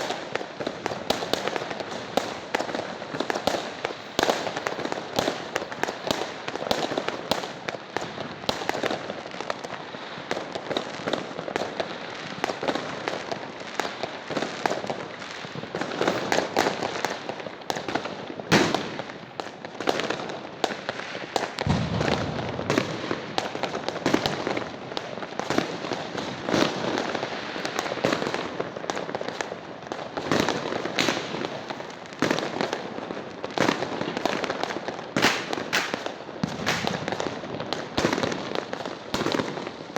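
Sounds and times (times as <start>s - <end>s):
fireworks popping and crackling: 0.0s - 39.9s.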